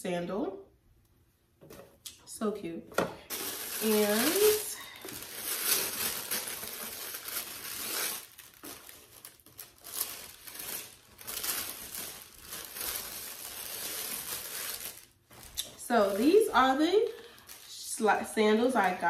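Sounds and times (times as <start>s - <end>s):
tissue paper rustling: 3.2s - 19.0s.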